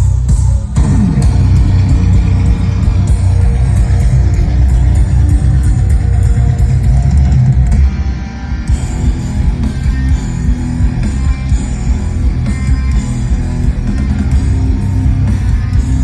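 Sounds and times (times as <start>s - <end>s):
electric guitar: 0.0s - 16.0s
rock band playing: 0.0s - 16.0s.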